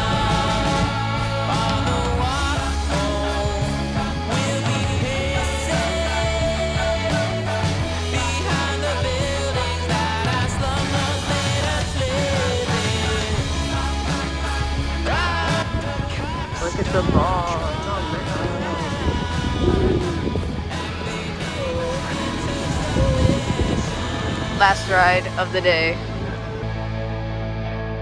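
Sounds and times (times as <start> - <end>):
song with sung vocal: 0.0 - 27.5.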